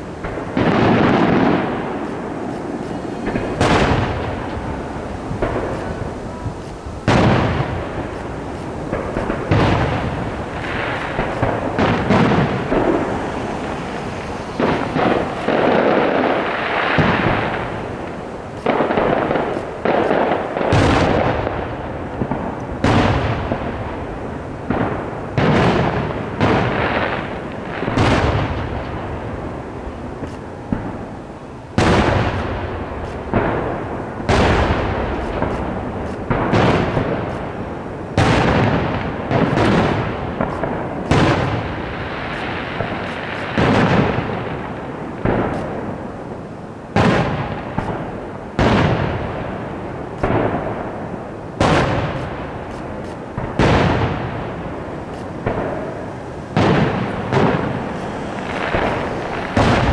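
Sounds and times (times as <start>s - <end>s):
firework shells booming: 0.0s - 59.9s.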